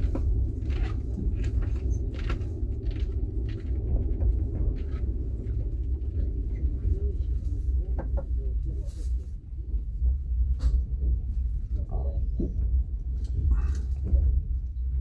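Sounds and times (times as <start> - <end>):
train carriage rolling on rails: 0.0 - 15.0.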